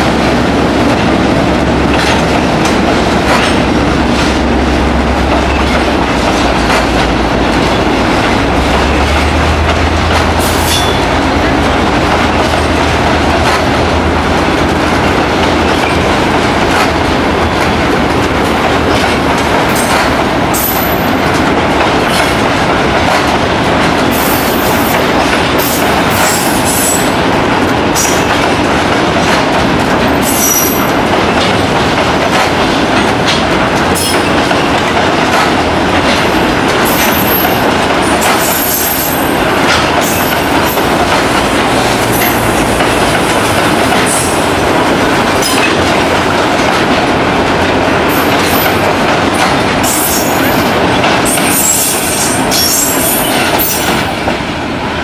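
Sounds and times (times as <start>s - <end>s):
train wheels clattering on rail: 0.0s - 55.0s.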